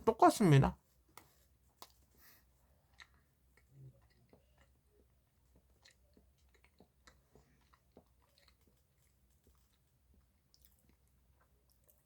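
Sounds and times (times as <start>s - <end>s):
chewing mouth clicks and smacks: 1.2s - 12.0s.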